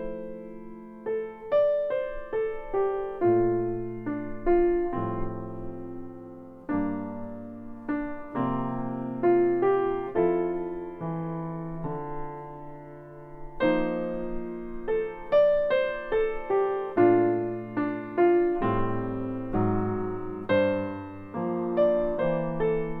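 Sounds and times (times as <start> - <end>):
solo piano melody: 0.0 - 23.0.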